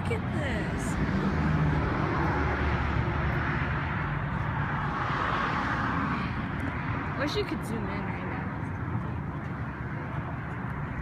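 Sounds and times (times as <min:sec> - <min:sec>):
broad rush of noise: 0:00.0 - 0:11.0
engine hum: 0:00.0 - 0:11.0.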